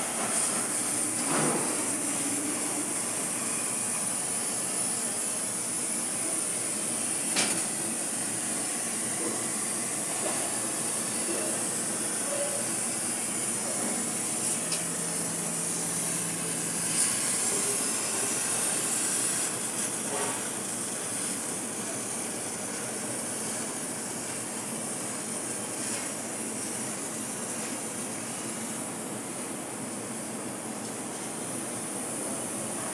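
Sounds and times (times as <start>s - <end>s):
laser cutter gas jet hiss: 0.0s - 32.9s.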